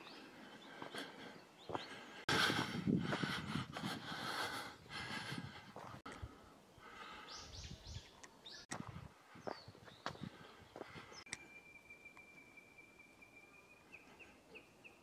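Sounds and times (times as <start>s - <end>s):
outdoor park ambience: 0.0s - 15.0s.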